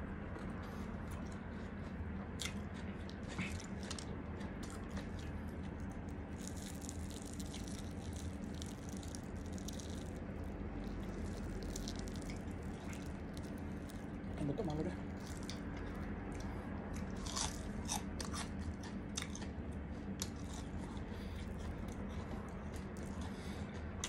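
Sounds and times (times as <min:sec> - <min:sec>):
crunching and chewing fried chicken: 0:00.0 - 0:24.0
low hum: 0:00.0 - 0:24.0.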